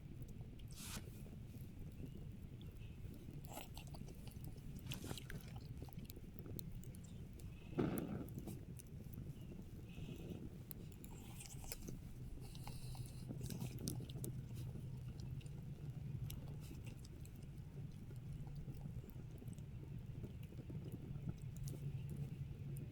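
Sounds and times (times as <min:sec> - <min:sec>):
chewing with small crunches: 0:00.0 - 0:22.9
low steady hum: 0:00.0 - 0:22.9.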